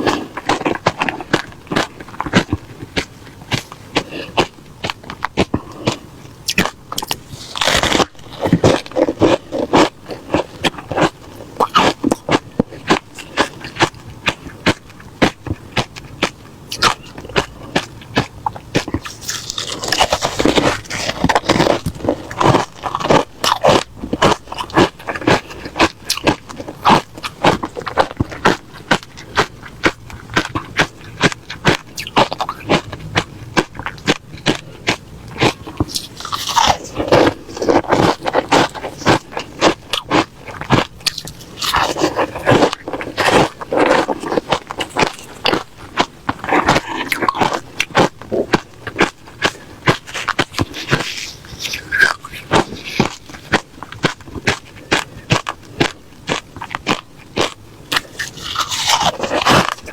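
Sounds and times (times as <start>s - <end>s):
ice being crunched and chewed: 0.0s - 59.9s.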